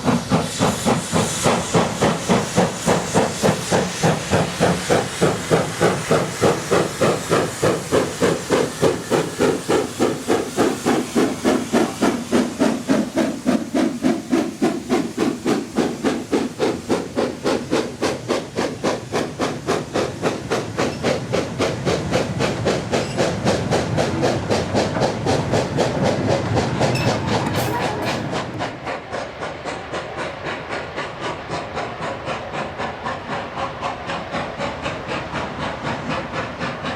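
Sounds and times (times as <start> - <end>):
steam hiss: 0.0 - 36.9
steam locomotive exhaust chuffing: 0.0 - 36.9.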